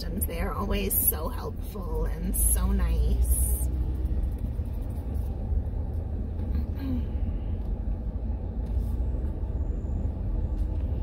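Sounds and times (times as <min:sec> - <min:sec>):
minivan cabin rumble: 0:00.0 - 0:11.0.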